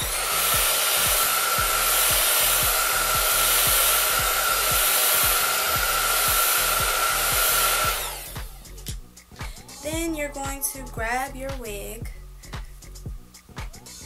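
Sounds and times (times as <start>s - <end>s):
hair dryer running: 0.0s - 11.4s.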